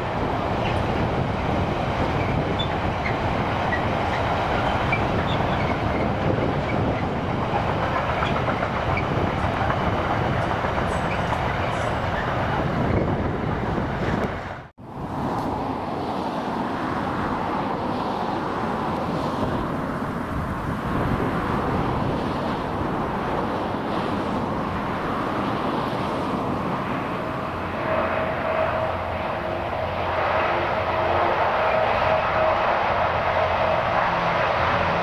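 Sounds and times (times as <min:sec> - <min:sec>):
train wheels rumbling on rail: 0:00.0 - 0:16.3, 0:16.9 - 0:35.0.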